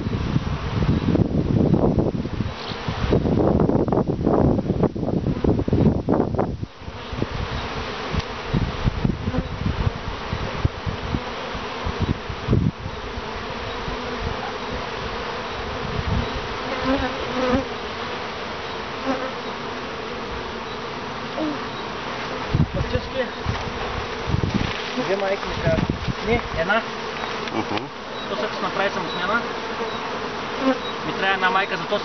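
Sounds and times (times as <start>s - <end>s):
bees buzzing: 0.0s - 32.0s
single bee buzzing past: 0.0s - 32.0s.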